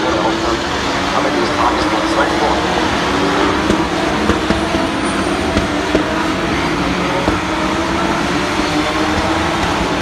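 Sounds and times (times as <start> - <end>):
race car engines: 0.0 - 10.0.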